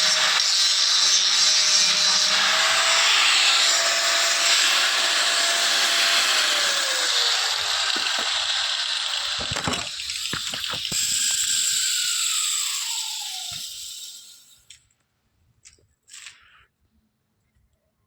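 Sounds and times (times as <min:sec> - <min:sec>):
angle grinder grinding metal: 0:00.0 - 0:14.6
grinder spinning down whine: 0:00.0 - 0:14.6.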